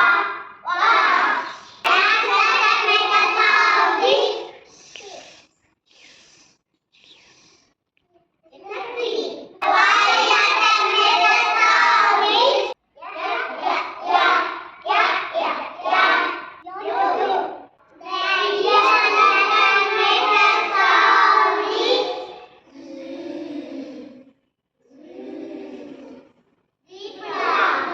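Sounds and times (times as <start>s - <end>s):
children chanting: 0.0s - 5.2s, 8.8s - 27.9s.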